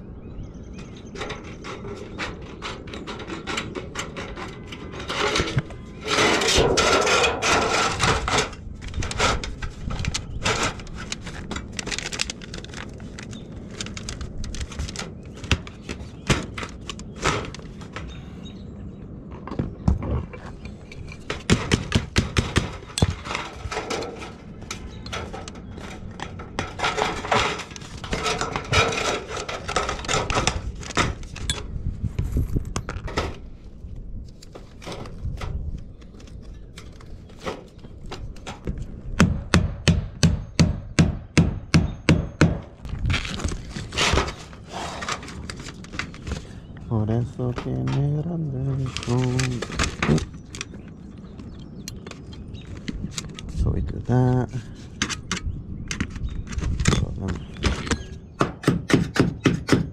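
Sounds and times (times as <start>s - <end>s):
roofing tools knocking and scraping: 0.7s - 18.3s, 19.2s - 31.8s, 34.4s - 59.9s.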